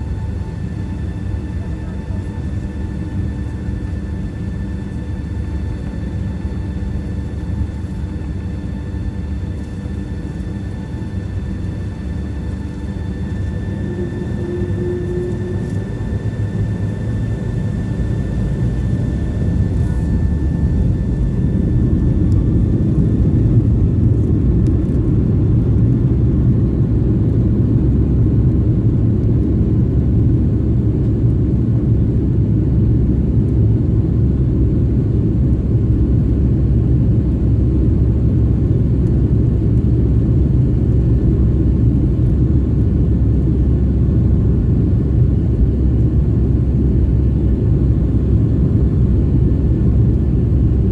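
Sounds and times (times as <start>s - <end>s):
jet cabin engine rumble: 0.0s - 50.9s.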